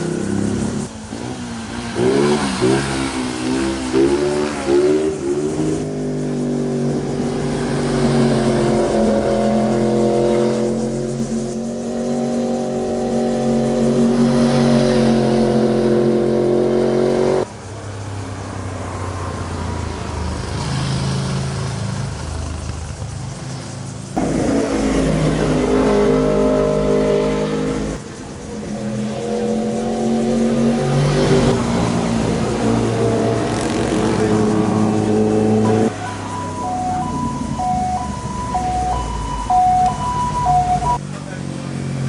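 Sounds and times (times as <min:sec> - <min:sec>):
motorcycles passing: 0:00.0 - 0:42.0.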